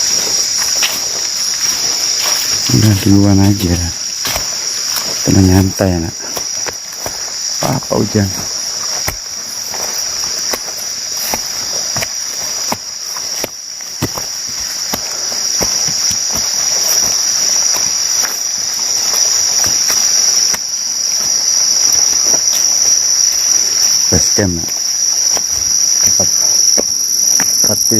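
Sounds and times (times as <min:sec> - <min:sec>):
high-pitched insect chorus: 0:00.0 - 0:27.9.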